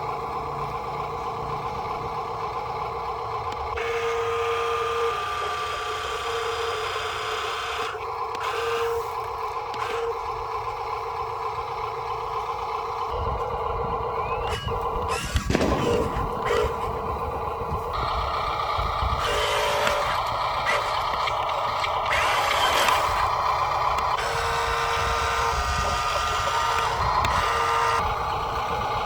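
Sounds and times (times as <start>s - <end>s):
model truck motor whining: 0.0s - 29.0s.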